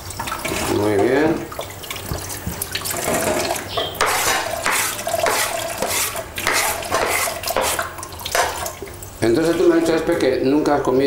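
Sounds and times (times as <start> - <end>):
tap water splashing on cutting board: 0.2 - 10.3.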